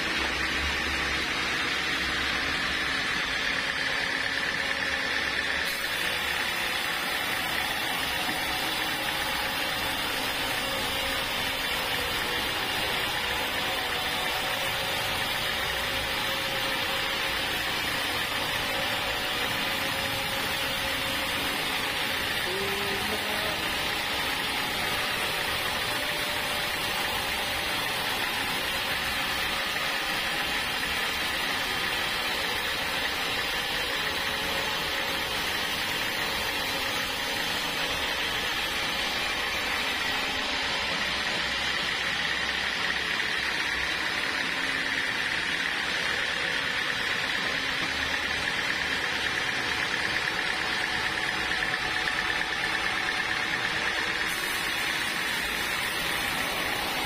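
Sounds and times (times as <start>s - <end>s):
band saw whining through timber: 0.0s - 57.0s.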